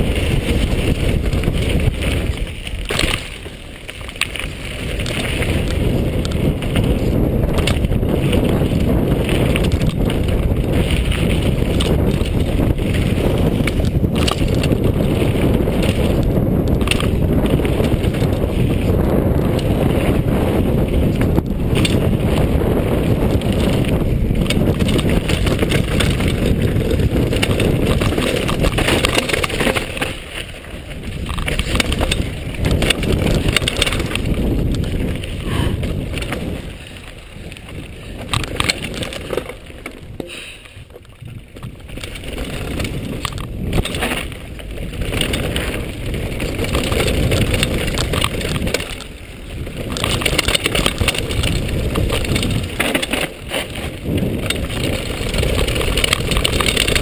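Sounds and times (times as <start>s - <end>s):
bike rattling over bumps: 0.0s - 57.0s
tyres crunching over gravel: 0.0s - 57.0s
wind buffeting microphone: 0.0s - 57.0s.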